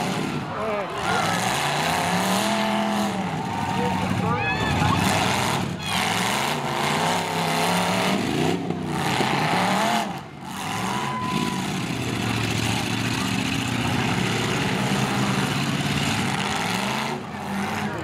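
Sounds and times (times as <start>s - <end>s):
truck engines revving hard: 0.0s - 18.0s.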